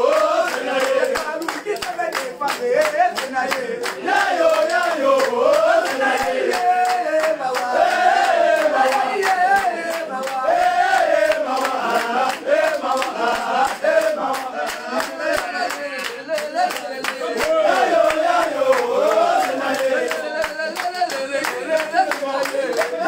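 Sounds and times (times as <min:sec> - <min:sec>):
men chanting in unison: 0:00.0 - 0:23.0
rhythmic hand claps: 0:00.0 - 0:23.0.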